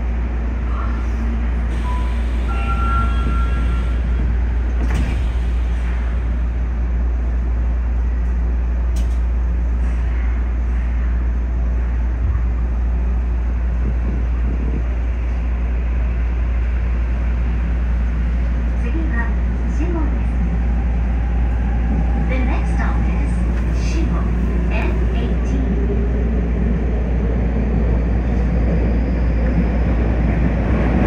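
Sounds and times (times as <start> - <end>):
subway train rumbling in tunnel: 0.0 - 31.0.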